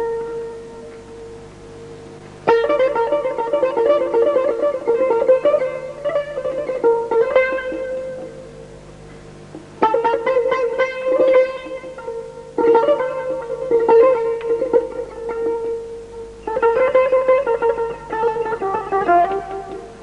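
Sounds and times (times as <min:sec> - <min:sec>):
tar plucked notes: 0:00.0 - 0:20.0.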